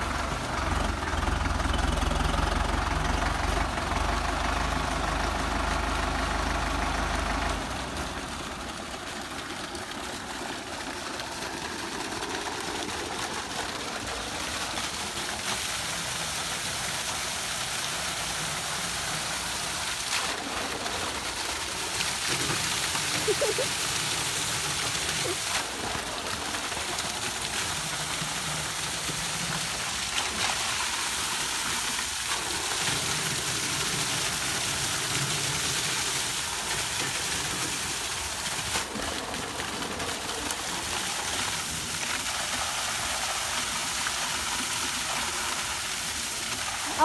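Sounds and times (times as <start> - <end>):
water gushing onto tractor: 0.0 - 47.0.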